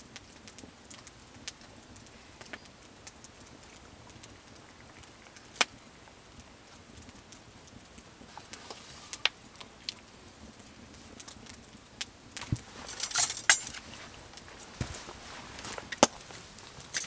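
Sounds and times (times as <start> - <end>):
faint high hiss: 0.0 - 17.0.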